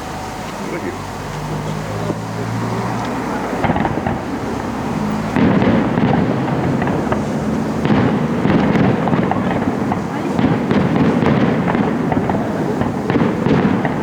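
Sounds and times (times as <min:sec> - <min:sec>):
fireworks crackling and banging: 0:00.0 - 0:14.0.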